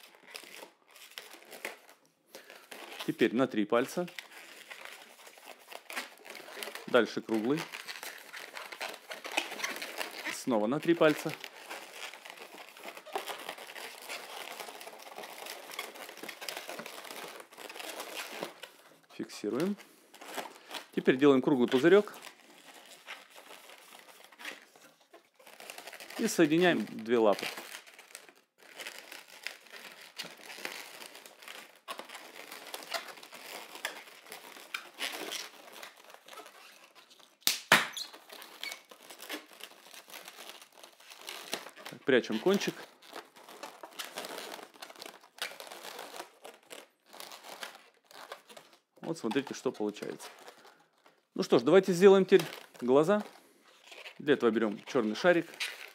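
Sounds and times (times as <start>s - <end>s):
balloons rubbing and creaking: 0.0s - 55.9s.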